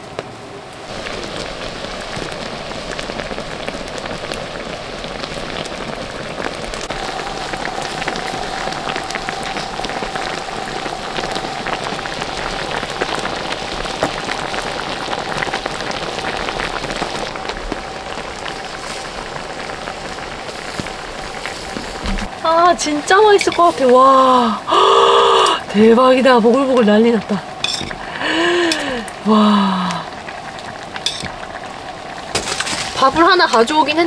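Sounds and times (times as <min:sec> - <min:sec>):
broth boiling and bubbling: 0:00.0 - 0:34.0
burning wood crackling: 0:00.0 - 0:34.0.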